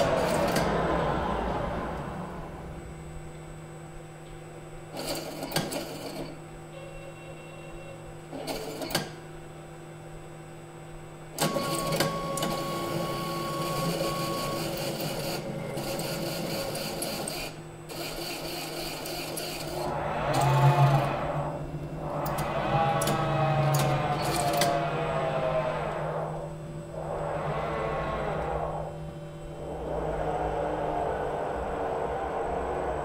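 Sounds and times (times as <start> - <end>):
electrical hum: 0.0 - 33.0
whirring machine buzz: 0.0 - 33.0.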